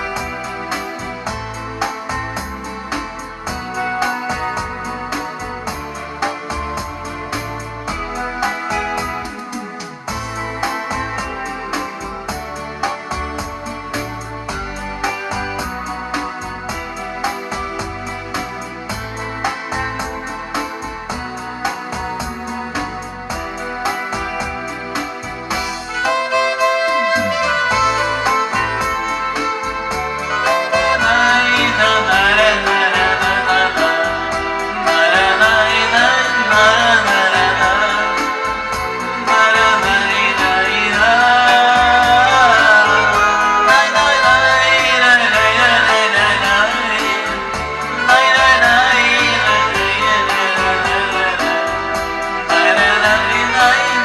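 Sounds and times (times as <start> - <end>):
backing track music with beat: 0.0 - 54.0.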